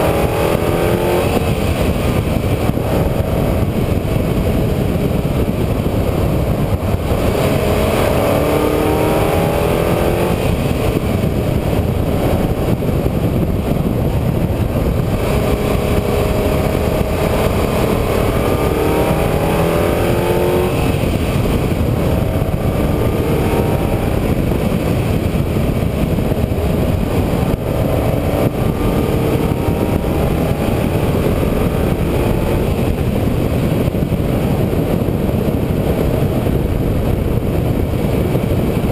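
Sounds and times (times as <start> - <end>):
vehicle engine accelerating: 0.0 - 38.9
wind and road noise: 0.0 - 38.9.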